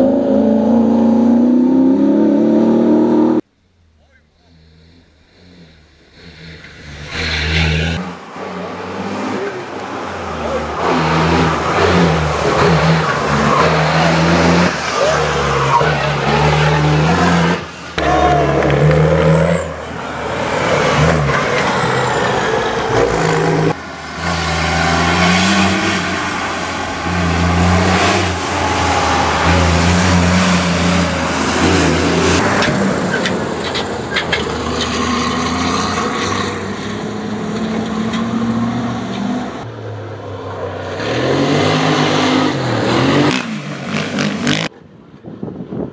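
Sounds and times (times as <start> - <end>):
rally car engines revving: 0.0 - 3.5, 4.3 - 44.7.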